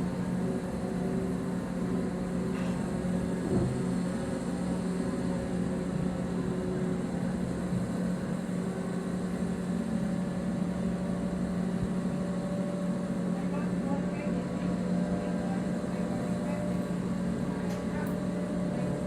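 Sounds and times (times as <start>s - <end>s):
ship machinery humming: 0.0s - 19.0s.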